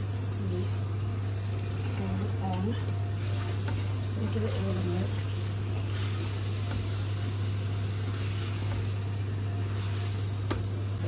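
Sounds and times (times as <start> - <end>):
steady low hum: 0.0 - 11.0
water boiling in a pot: 0.0 - 11.0
wooden spoon stirring food: 1.1 - 11.0.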